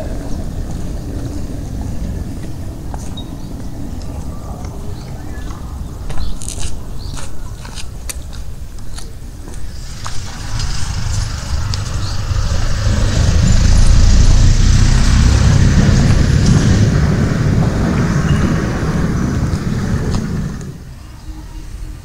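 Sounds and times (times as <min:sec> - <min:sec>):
vehicle engine and tyre rumble: 0:00.0 - 0:21.0.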